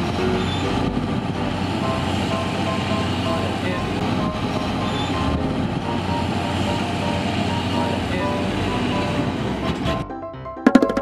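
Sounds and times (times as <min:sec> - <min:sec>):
heavy machinery rumble: 0:00.0 - 0:10.1.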